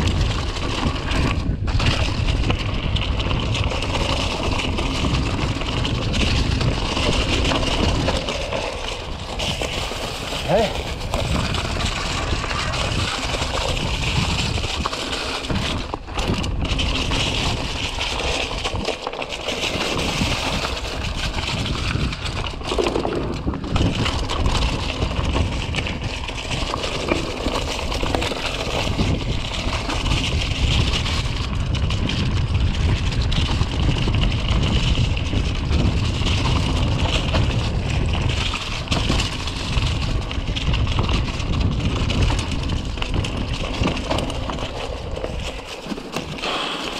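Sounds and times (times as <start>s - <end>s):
bike tyres crunching on dirt: 0.0s - 46.9s
wind rumbling on microphone: 0.0s - 46.9s.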